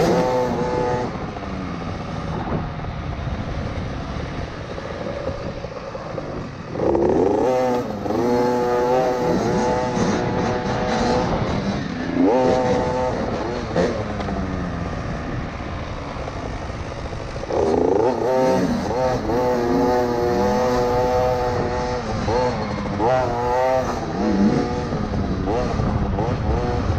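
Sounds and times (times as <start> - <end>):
two-stroke engine revving: 0.0 - 2.6, 4.6 - 26.9.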